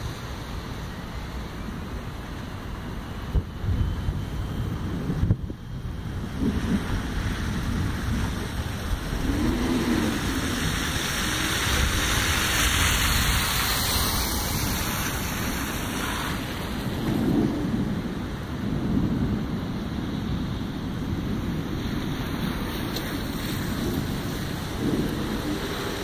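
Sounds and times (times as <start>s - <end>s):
rain falling steadily: 0.0s - 26.0s
low rumble of thunder: 1.0s - 26.0s.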